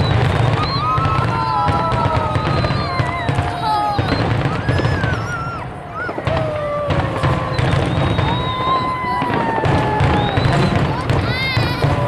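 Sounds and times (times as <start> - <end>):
firework crackling pops: 0.0 - 12.0
firework whistles sliding in pitch: 0.0 - 12.0.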